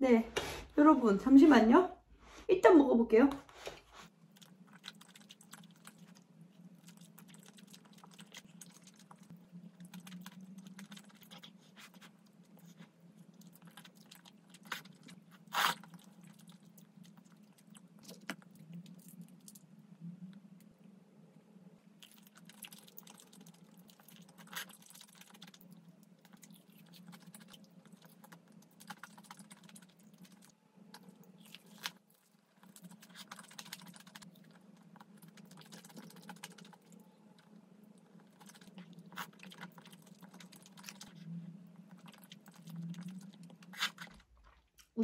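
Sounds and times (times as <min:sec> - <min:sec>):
faint low hum: 0:00.0 - 0:45.0
wet chewing and crunching: 0:04.0 - 0:20.8, 0:21.9 - 0:45.0.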